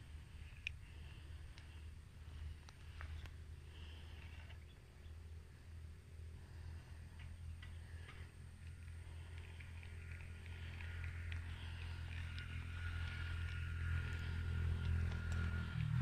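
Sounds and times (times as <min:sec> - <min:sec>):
distant motor engine humming: 0:00.0 - 0:16.0.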